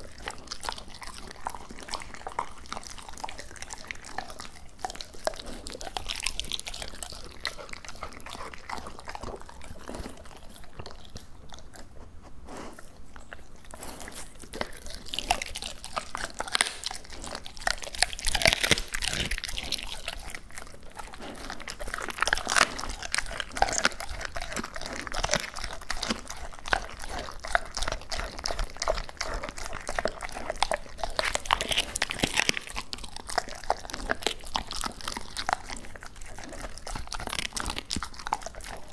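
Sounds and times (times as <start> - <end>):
dog crunching raw meat: 0.0 - 38.9.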